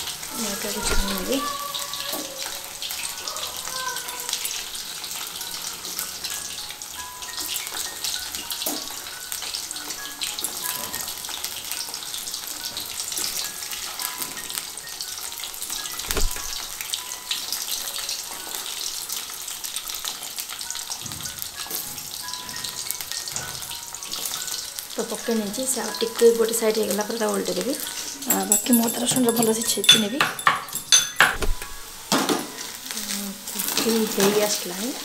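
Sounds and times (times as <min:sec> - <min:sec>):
food deep-frying in hot oil: 0:00.0 - 0:35.0.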